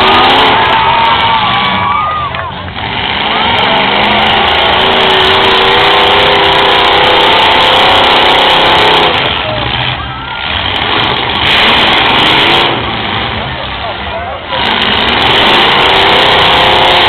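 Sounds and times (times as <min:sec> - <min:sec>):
car engines revving loudly: 0:00.0 - 0:17.0.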